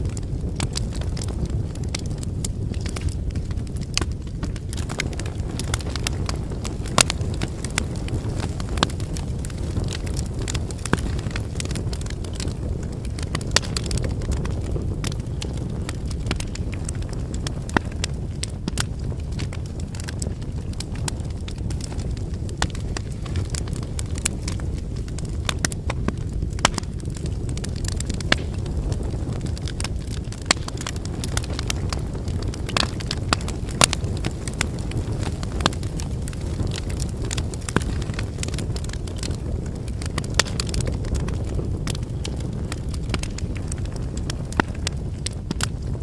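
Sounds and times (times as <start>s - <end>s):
burning wood crackling and popping: 0.0s - 46.0s
low sound of flames: 0.0s - 46.0s.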